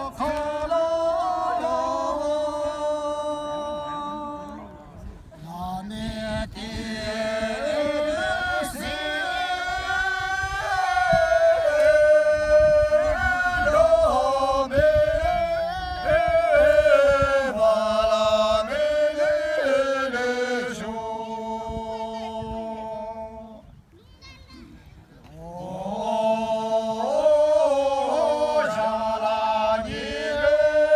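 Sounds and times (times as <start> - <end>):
group singing in unison: 0.0 - 4.6, 5.5 - 23.6, 25.3 - 30.9.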